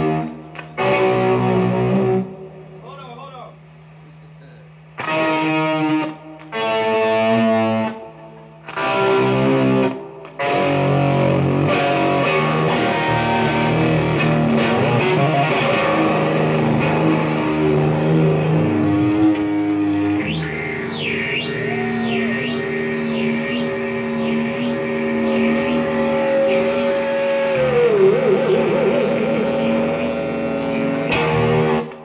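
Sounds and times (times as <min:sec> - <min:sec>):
bass guitar: 0:00.0 - 0:02.8, 0:04.9 - 0:32.0
electric guitar: 0:00.0 - 0:02.8, 0:04.9 - 0:32.0.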